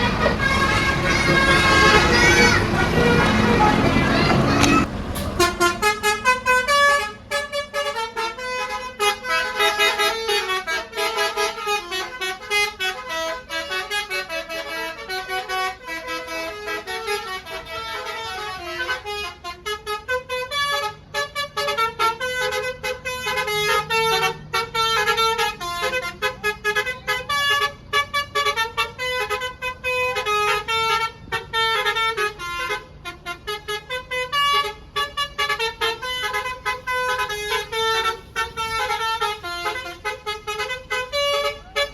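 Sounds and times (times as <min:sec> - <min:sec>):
bus horn playing a melody: 0:00.0 - 0:41.9.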